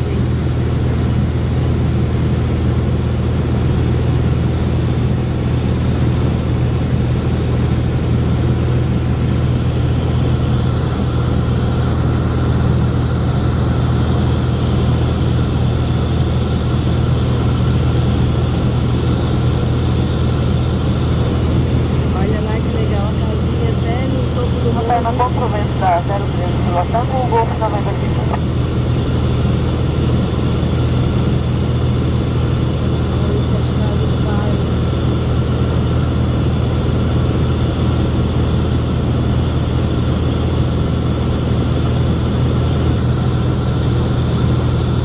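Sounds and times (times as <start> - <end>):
propeller plane engine hum: 0.0 - 45.0.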